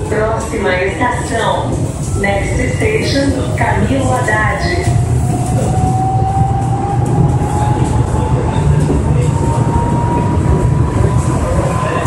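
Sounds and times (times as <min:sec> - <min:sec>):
monorail train accelerating: 0:00.0 - 0:12.0.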